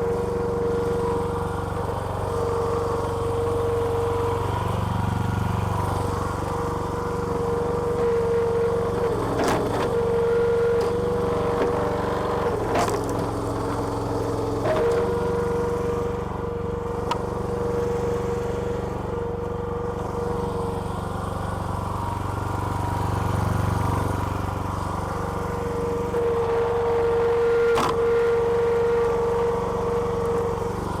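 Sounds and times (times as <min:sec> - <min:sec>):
small petrol engine running: 0:00.0 - 0:31.0.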